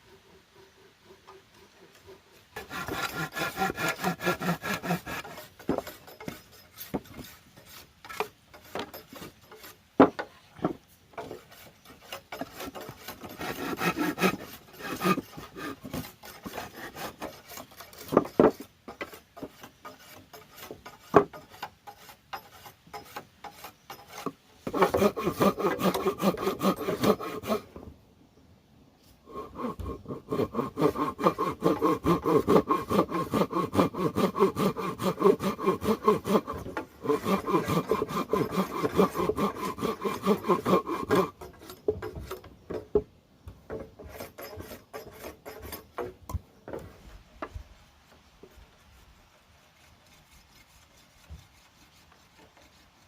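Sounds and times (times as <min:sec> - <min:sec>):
hand saw cutting wood: 0:00.0 - 0:27.8, 0:29.3 - 0:43.0, 0:43.7 - 0:53.0.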